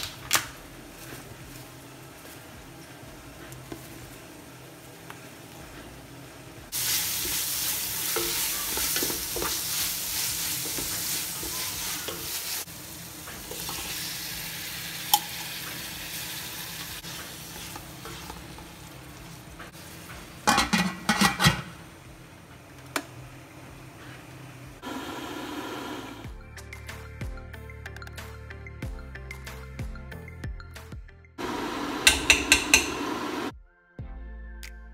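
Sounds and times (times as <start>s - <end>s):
onions and tomatoes sizzling: 0.0s - 26.3s, 31.4s - 33.5s.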